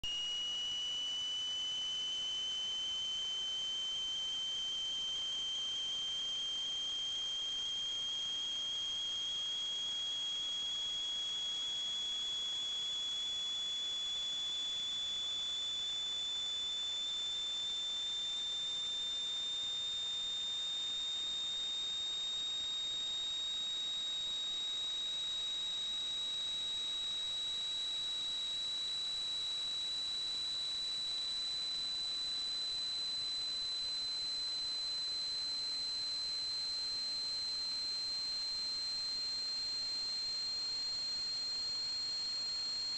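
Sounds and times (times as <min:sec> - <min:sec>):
high-pitched electronic whine: 0:00.0 - 0:42.9.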